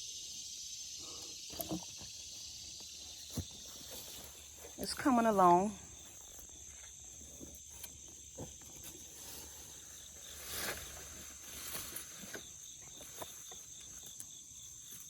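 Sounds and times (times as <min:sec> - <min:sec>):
crickets and insects chirping: 0:00.0 - 0:15.0.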